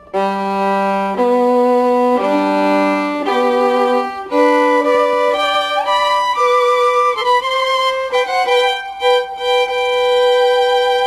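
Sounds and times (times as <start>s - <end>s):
slow string melody: 0.0s - 11.0s.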